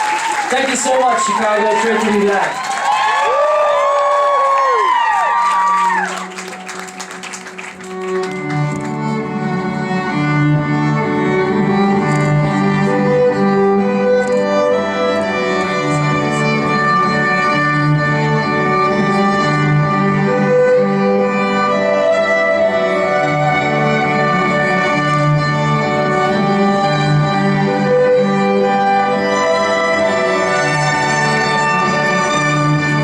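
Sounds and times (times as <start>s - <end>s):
sustained bowed violin notes: 6.2s - 33.0s.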